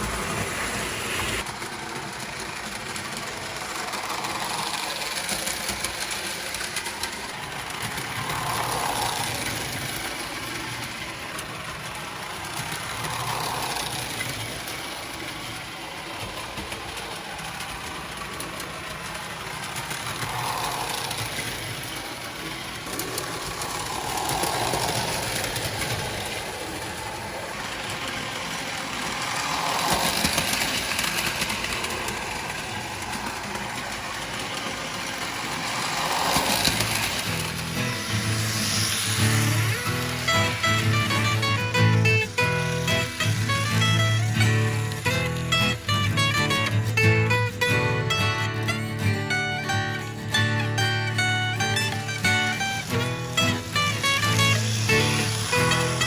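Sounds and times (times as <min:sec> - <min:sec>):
model train motor and wheels rumbling: 0:00.0 - 0:56.0.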